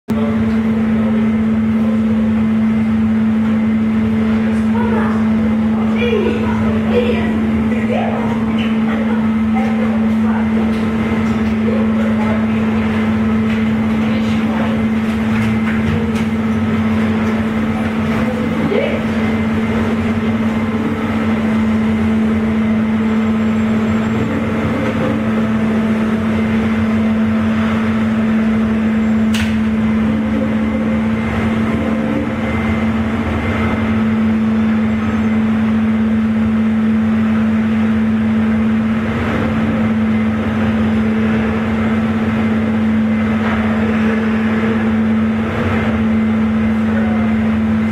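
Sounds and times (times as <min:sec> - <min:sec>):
ship engines droning: 0:00.0 - 0:47.9
faint voices: 0:00.1 - 0:33.9, 0:42.4 - 0:47.9.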